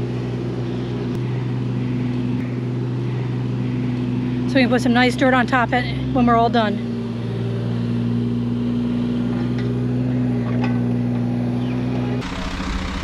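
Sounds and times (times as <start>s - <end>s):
diesel engine running: 0.0s - 13.0s
rough noisy engine: 0.0s - 13.0s.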